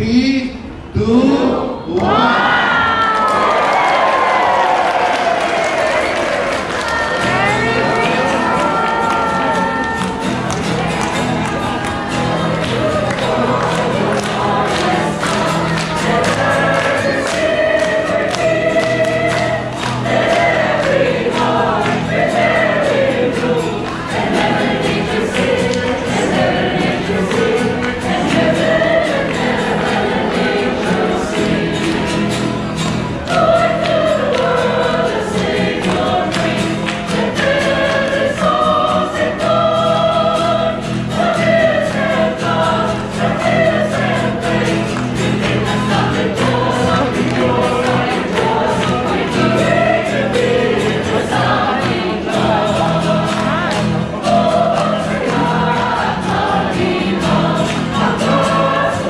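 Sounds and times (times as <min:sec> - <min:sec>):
choir singing a hymn: 0:01.5 - 0:59.0.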